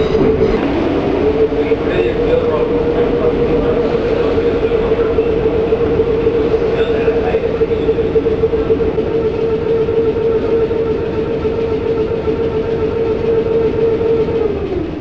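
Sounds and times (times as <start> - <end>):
traction motor whine: 0.0 - 15.0
wheel and track rumble: 0.0 - 15.0.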